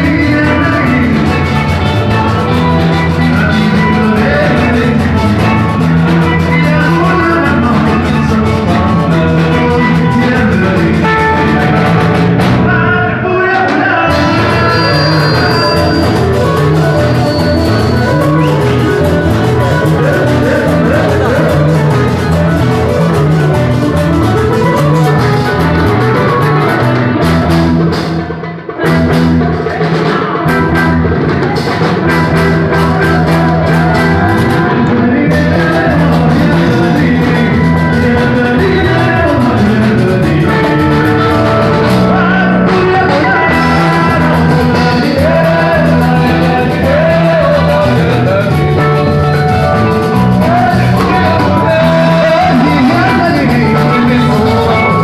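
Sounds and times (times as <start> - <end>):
drums: 0.0 - 55.0
electric guitar: 0.0 - 55.0
person singing: 0.0 - 55.0.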